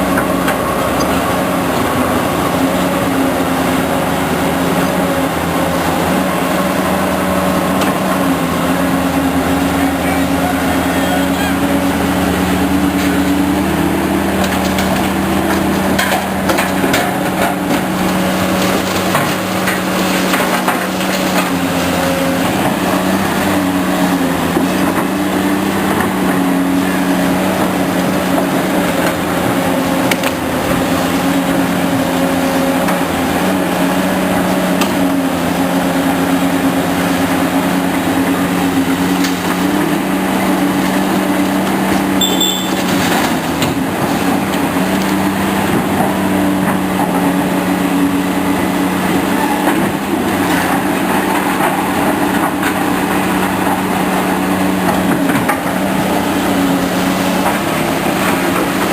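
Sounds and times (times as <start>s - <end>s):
diesel engine running under load: 0.0s - 58.9s.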